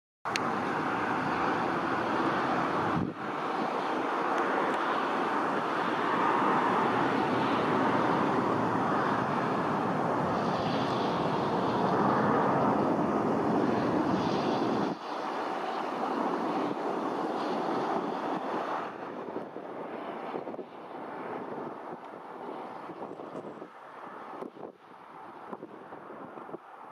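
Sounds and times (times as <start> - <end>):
jet engines running: 0.3 - 26.8.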